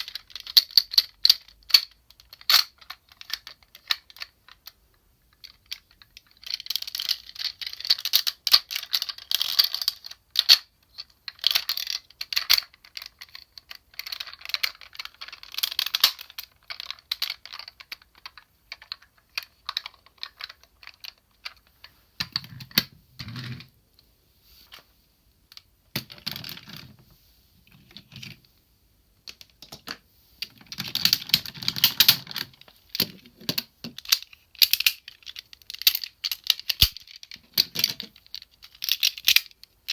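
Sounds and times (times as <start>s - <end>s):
plastic toy parts clicking: 0.0s - 22.9s, 30.7s - 39.9s.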